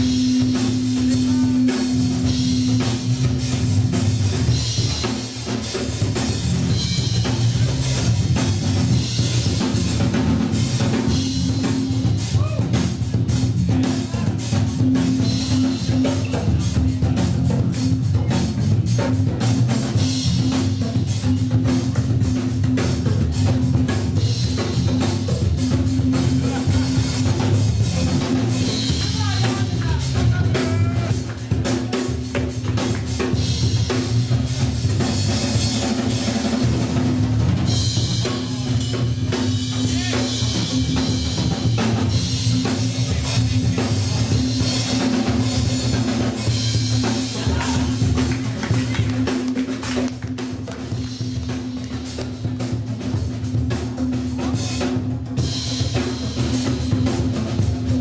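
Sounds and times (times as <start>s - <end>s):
loud music with drum beat: 0.0s - 58.0s.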